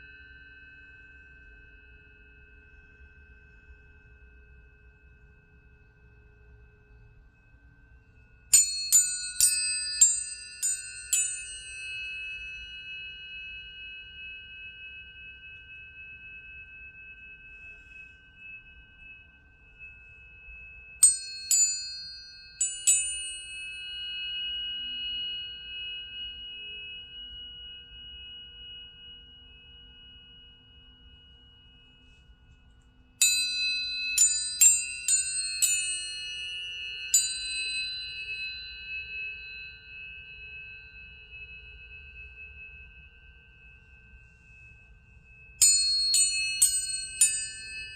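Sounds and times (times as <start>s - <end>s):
tuning forks struck: 0.0s - 47.9s
high tones ringing: 8.0s - 47.9s.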